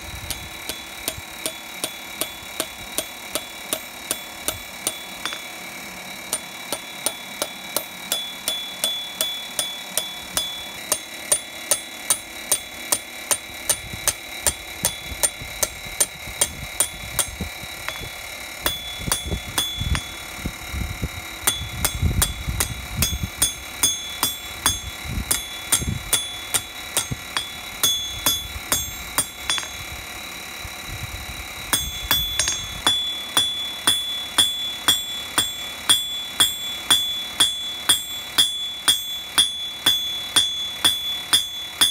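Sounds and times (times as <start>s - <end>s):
hammer striking steel on anvil: 0.0s - 20.4s, 21.4s - 30.0s, 31.7s - 41.9s.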